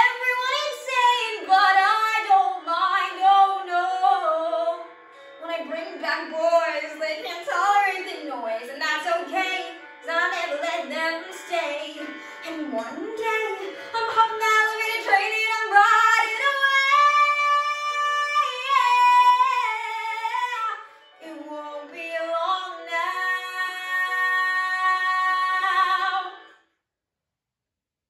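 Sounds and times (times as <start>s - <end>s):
woman singing with vibrato: 0.0s - 26.5s.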